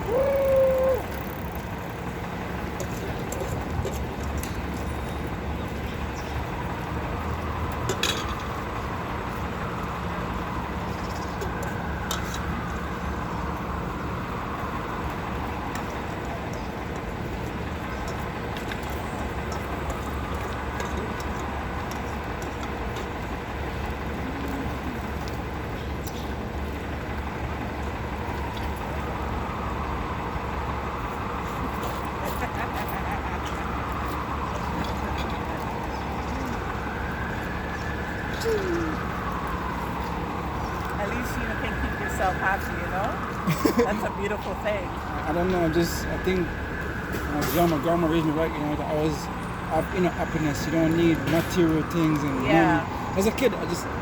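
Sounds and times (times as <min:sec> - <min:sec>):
passing vehicles rumble and hiss: 0:00.0 - 0:54.0.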